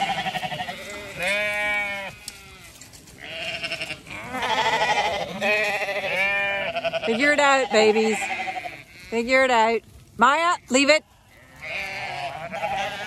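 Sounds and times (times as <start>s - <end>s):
lambs bleating: 0.0s - 9.6s, 10.3s - 13.0s.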